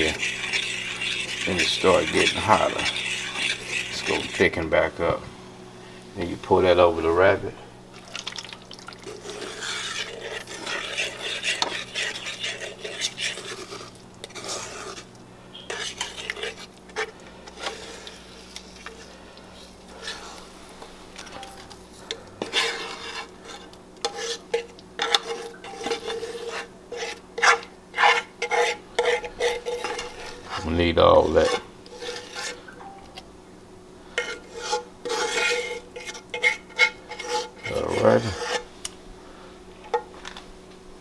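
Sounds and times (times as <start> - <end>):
spoon scraping a skillet: 0.0 - 5.1, 8.9 - 33.2, 34.1 - 38.7.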